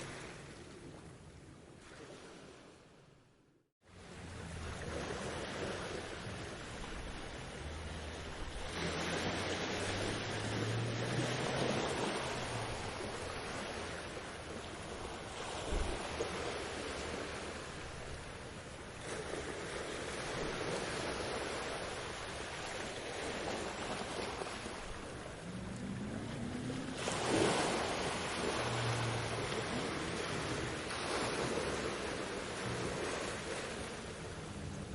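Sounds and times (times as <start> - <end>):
ocean waves washing onto beach: 0.0 - 2.9, 3.8 - 34.9.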